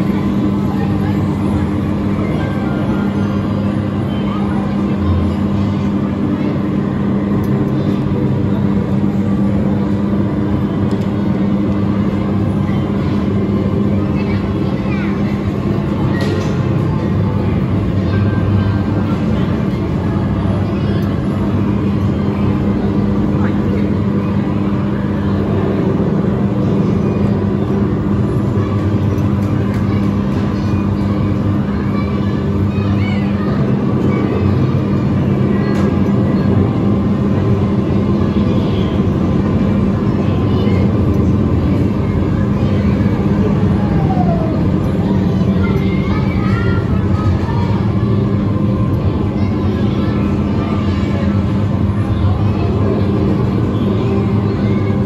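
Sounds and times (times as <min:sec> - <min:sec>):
hall background noise: 0:00.0 - 0:55.0
ride car motor hum: 0:00.0 - 0:55.0.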